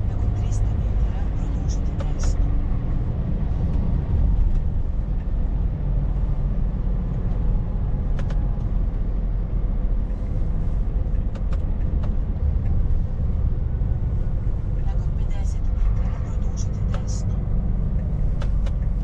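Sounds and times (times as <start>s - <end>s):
truck diesel engine rumble: 0.0s - 19.0s.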